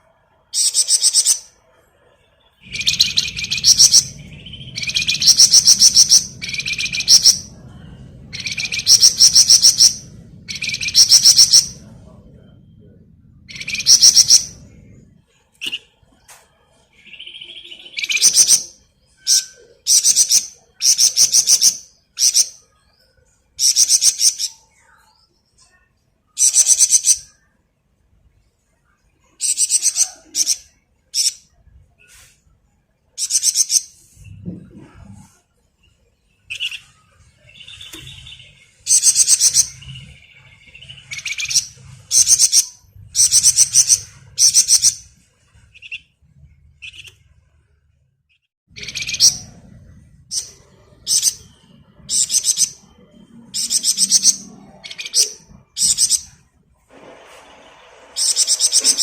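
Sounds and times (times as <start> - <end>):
lower bird chirping notes: 0.0 - 27.7, 28.3 - 56.5.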